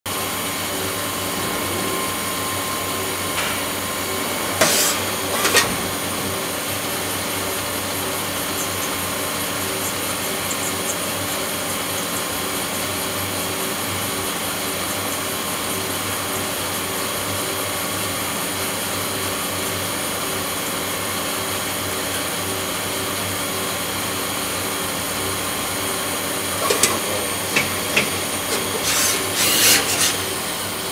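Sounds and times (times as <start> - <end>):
lathe machine hum: 0.1 - 30.9.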